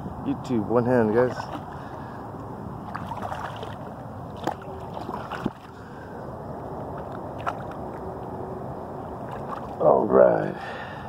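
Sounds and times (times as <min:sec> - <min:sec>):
water and wind noise: 0:00.0 - 0:11.0.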